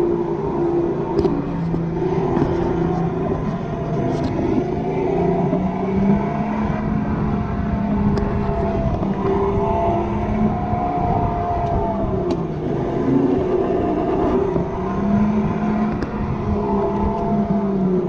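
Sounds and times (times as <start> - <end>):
electric motor whining: 0.0 - 18.0
tyres and wind rumbling: 0.0 - 18.0.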